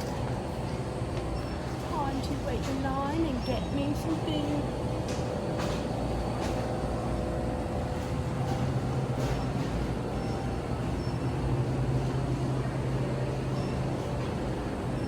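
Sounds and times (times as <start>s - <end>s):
low rumble of busy indoor space: 0.0s - 15.0s.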